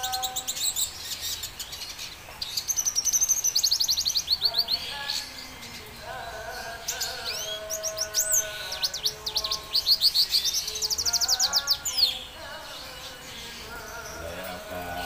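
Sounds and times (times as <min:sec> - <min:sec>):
bird chirping and trilling: 0:00.0 - 0:15.0.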